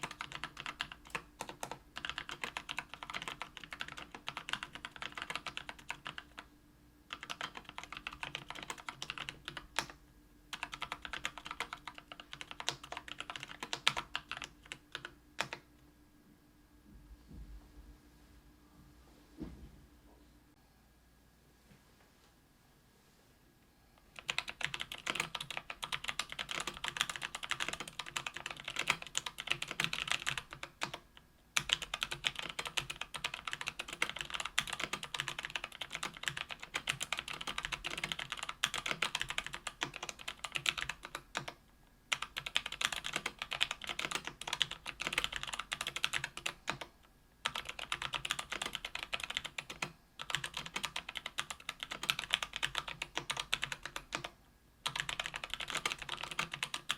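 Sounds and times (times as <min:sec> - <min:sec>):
mechanical keyboard typing: 0:00.0 - 0:06.5, 0:07.1 - 0:15.6, 0:24.1 - 0:56.9.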